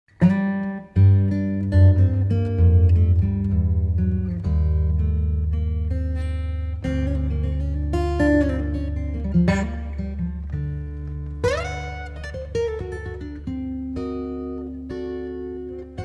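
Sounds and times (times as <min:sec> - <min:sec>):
plucked and strummed guitar: 0:00.1 - 0:16.0.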